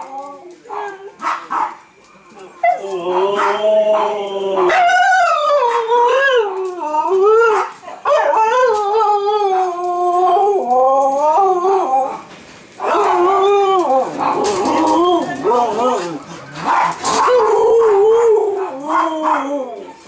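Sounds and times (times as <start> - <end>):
huskies howling: 0.0 - 20.0.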